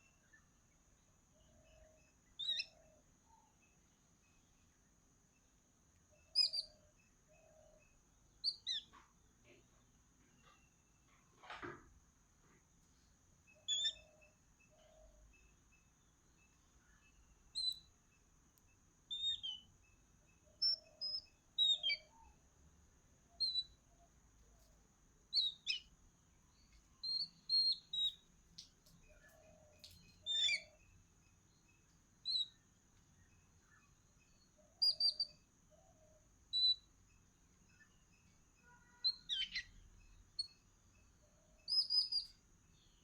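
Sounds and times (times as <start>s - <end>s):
faint high-pitched whine: 0.0s - 43.0s
small birds chirping: 0.0s - 43.0s.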